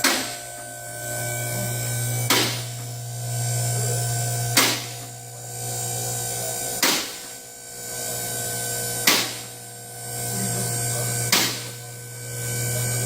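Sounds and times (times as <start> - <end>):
electric pump motor humming: 0.0 - 13.0.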